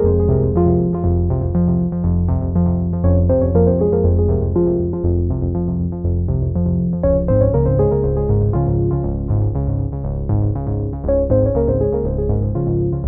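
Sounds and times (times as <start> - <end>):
repeating bass line: 0.0 - 13.0
synthesizer and keyboard tune: 0.0 - 13.0.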